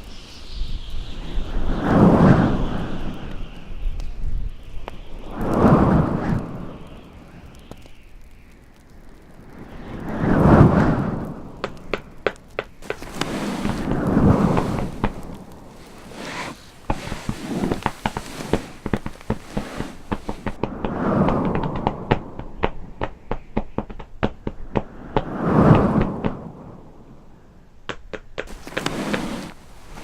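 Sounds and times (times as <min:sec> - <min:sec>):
crackling and popping: 0:03.0 - 0:26.4, 0:27.8 - 0:30.0.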